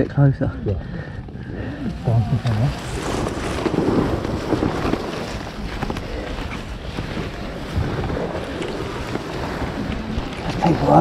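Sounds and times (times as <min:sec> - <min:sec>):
wind buffeting microphone: 0:00.0 - 0:11.0
clothing rustling: 0:02.0 - 0:11.0.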